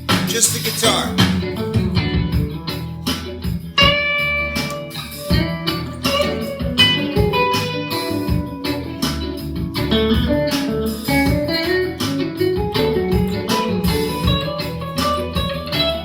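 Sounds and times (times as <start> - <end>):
electric guitar blues lead: 0.0 - 16.0.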